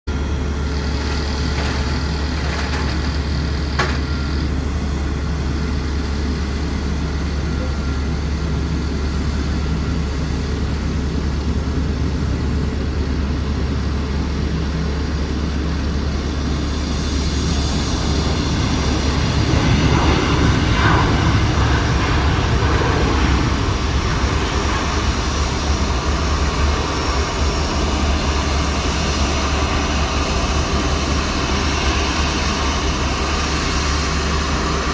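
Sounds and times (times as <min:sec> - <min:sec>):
jet engines rumbling: 0:00.1 - 0:34.9.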